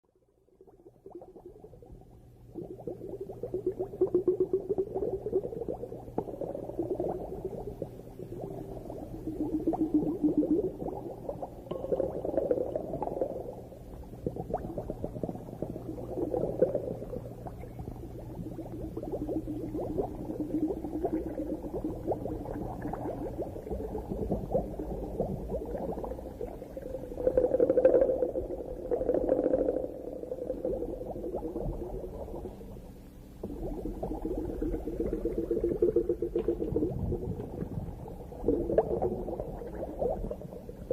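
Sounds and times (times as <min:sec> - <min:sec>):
low steady hum: 0:00.1 - 0:40.9
underwater bubbling and gurgling: 0:00.2 - 0:40.9.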